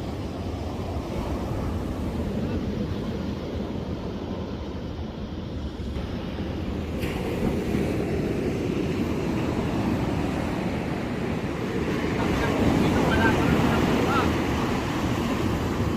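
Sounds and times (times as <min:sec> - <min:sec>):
ocean surf washing on shore: 0:00.0 - 0:15.9
wind buffeting microphone: 0:00.0 - 0:15.9.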